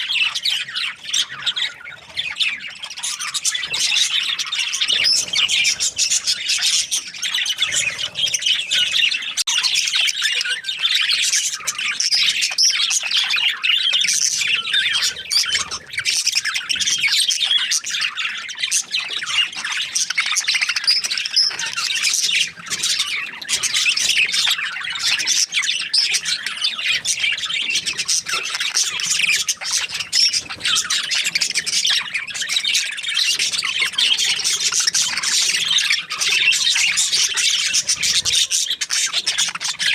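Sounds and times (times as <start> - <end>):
budgies chattering: 0.0 - 39.9.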